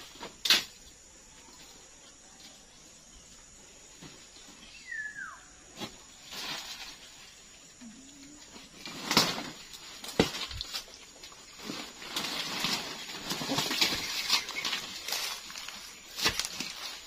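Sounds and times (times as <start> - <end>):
leaves and stalks rustling: 0.0 - 17.0.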